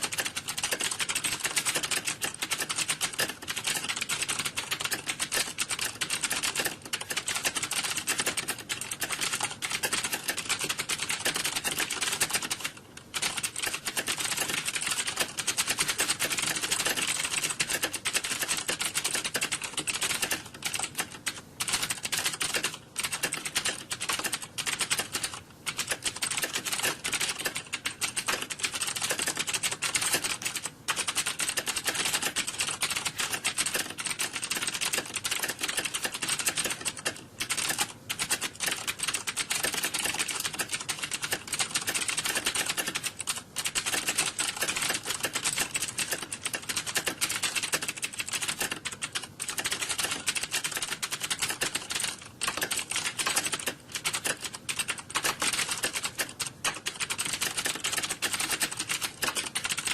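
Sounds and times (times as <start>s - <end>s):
typing on computer keyboards: 0.0s - 59.9s.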